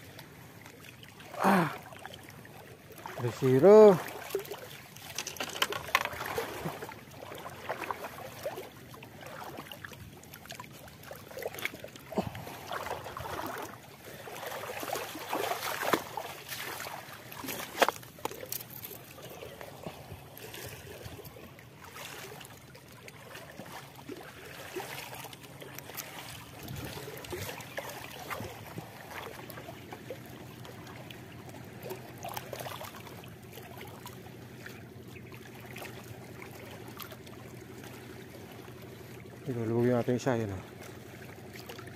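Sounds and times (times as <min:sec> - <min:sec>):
small waves lapping against boat: 0:00.0 - 0:41.9.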